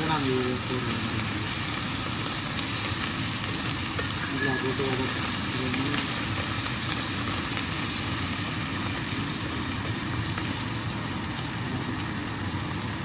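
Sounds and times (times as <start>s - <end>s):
onions frying in hot oil: 0.0s - 13.0s.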